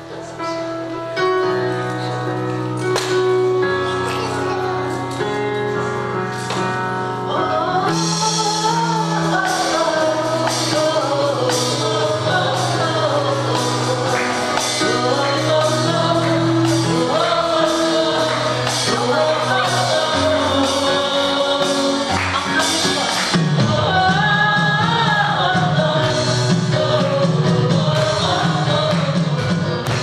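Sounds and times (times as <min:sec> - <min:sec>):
bass: 0:00.0 - 0:30.0
keyboard chords: 0:00.0 - 0:30.0
gospel singing: 0:04.9 - 0:30.0.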